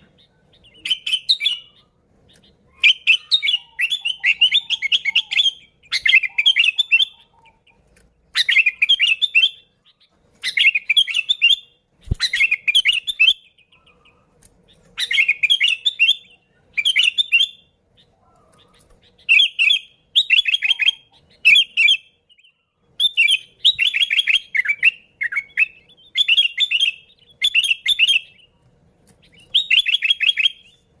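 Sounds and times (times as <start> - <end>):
bulbul singing: 0.0 - 31.0.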